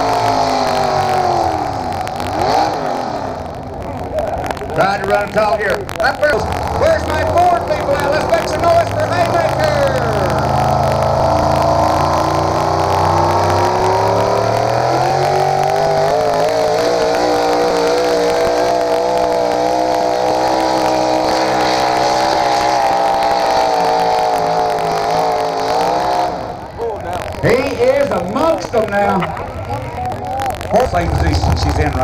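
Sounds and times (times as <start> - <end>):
truck engine at high revs: 0.0 - 32.0.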